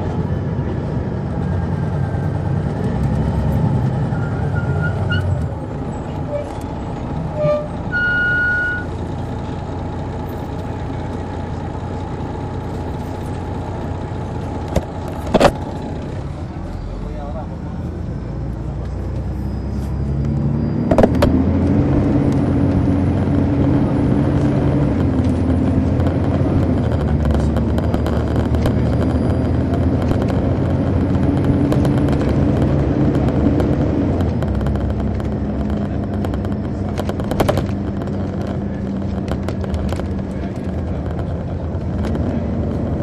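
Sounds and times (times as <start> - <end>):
bus diesel engine pulling away: 0.0 - 43.0.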